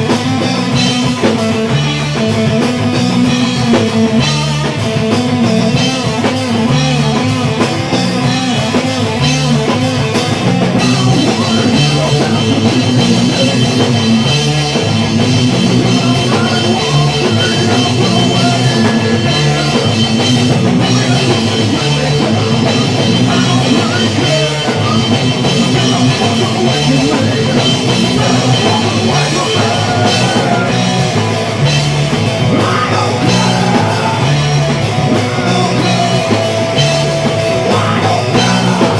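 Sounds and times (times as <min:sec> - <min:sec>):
bass guitar: 0:00.0 - 0:38.9
drum kit beat: 0:00.0 - 0:38.9
electric guitar: 0:00.0 - 0:38.9.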